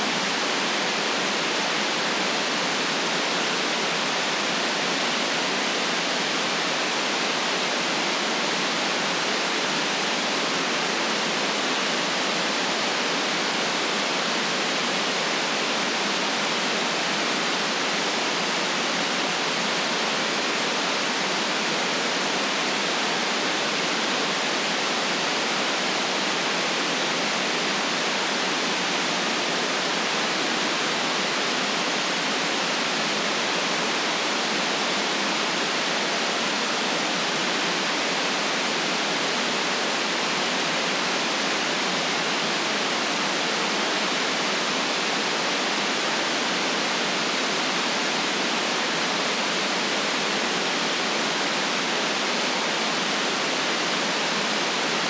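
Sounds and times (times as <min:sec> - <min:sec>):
electronic white noise hiss: 0:00.0 - 0:55.0.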